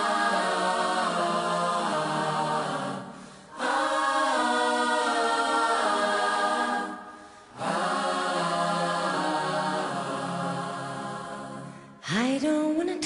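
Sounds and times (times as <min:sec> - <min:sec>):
choir singing held chords: 0:00.0 - 0:12.0.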